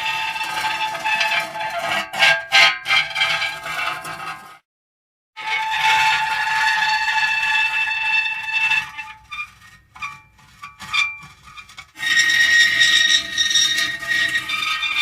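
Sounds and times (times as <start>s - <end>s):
metal creaking and squealing: 0.0s - 4.6s, 5.4s - 15.0s.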